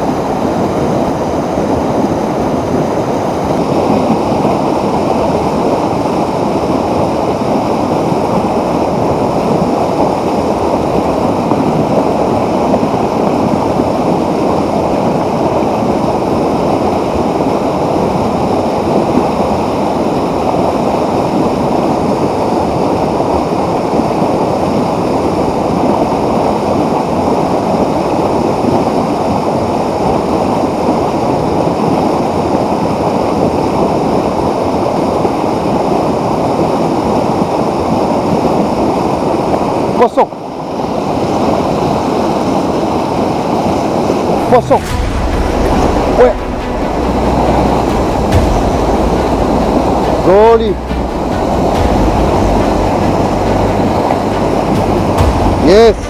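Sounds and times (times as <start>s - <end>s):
mountain torrent rushing: 0.0s - 56.0s.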